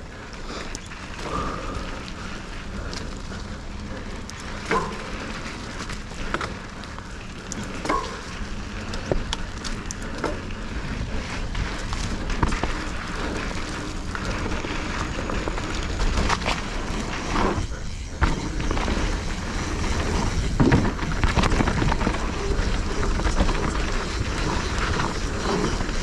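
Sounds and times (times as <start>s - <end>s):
bike rolling on dirt trail: 0.0s - 26.0s
bike clicks and knocks: 0.1s - 26.0s.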